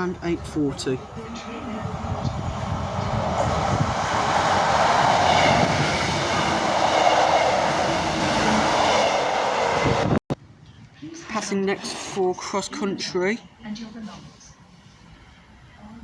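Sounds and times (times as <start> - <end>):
train passing at speed: 0.0 - 10.2, 11.3 - 16.0.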